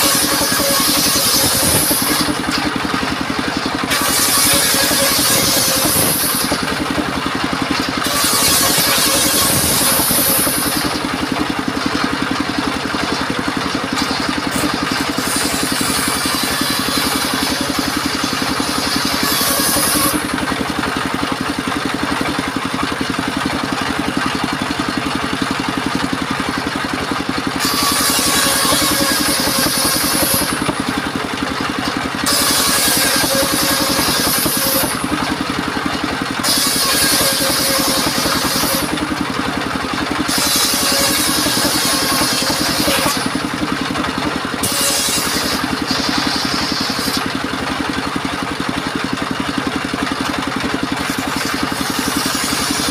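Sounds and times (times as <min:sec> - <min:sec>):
sawmill engine droning: 0:00.0 - 0:52.9.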